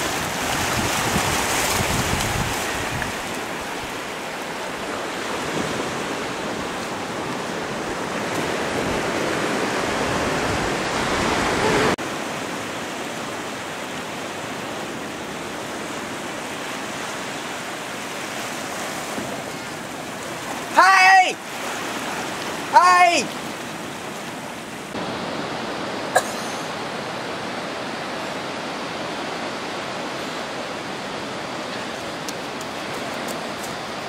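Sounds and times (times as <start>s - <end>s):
sea rushing along rocky shore: 0.0s - 34.0s
small waves washing on beach: 0.0s - 34.0s.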